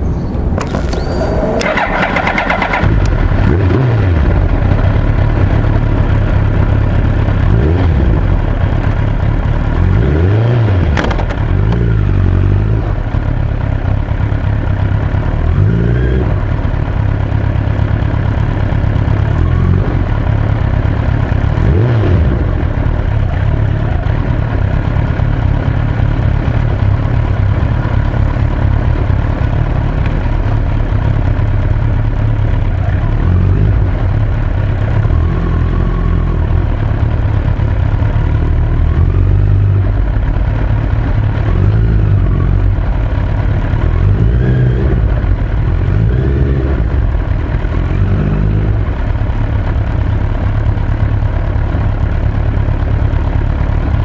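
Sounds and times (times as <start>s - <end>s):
motorcycle engine revving: 0.6s - 54.0s.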